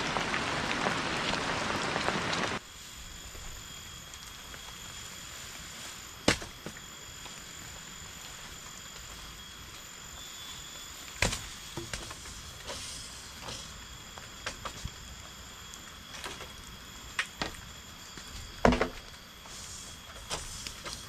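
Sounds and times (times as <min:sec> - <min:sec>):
high insect drone: 0:00.0 - 0:21.0
rain hissing: 0:00.0 - 0:21.0.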